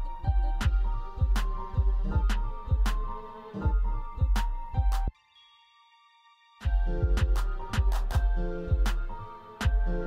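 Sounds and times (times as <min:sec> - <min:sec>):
kick drum and snare beat: 0:00.0 - 0:05.1, 0:06.6 - 0:10.0.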